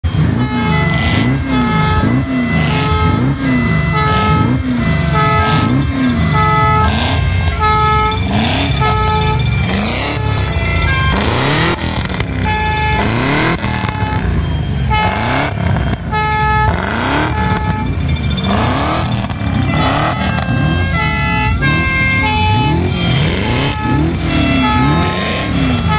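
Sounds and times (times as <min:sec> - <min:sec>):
car horns tooting: 0:00.0 - 0:25.9
engines revving: 0:00.0 - 0:25.9.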